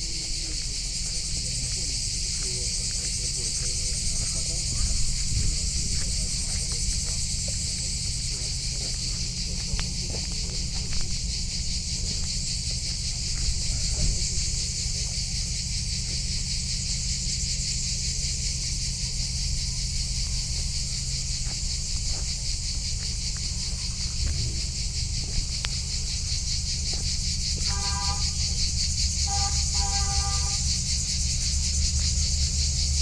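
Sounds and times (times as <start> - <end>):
shrill insect chorus: 0.0 - 33.0.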